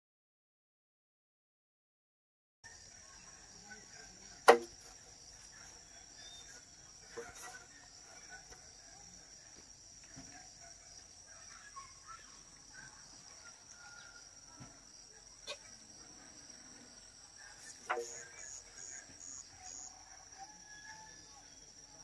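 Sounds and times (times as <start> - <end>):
faint insect chirps: 2.7 - 22.0.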